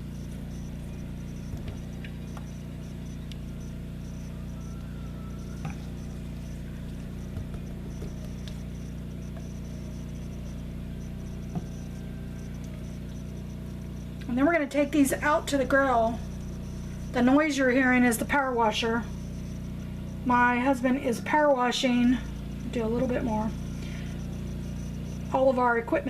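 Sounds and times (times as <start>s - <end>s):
power washer drone: 0.0s - 26.0s.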